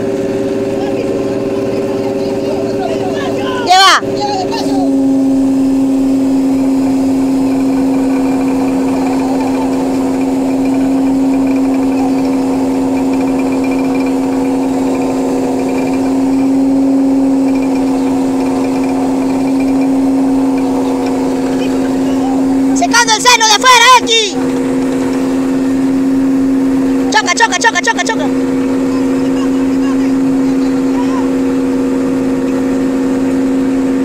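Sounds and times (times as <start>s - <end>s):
boat machinery drone: 0.0s - 34.0s
constant pitched hum: 0.0s - 34.0s.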